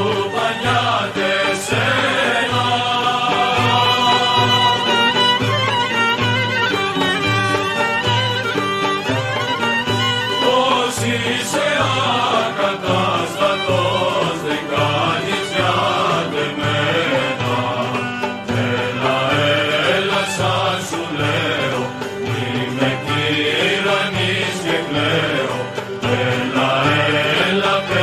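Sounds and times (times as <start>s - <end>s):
folk music with low beat: 0.0s - 28.0s.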